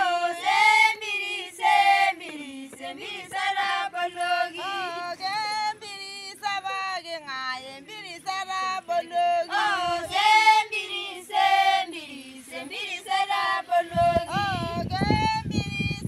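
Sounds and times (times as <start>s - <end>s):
women singing together: 0.0s - 16.0s.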